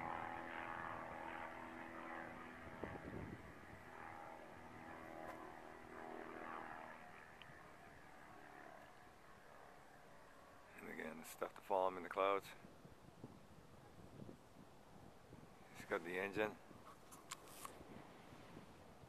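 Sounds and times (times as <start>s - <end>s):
distant light plane engine drone: 0.0s - 19.0s.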